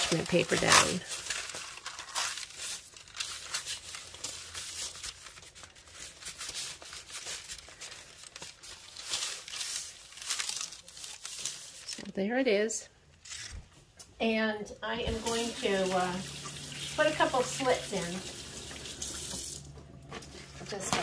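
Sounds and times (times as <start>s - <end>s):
parchment paper crinkling: 0.0s - 12.2s, 15.0s - 21.0s.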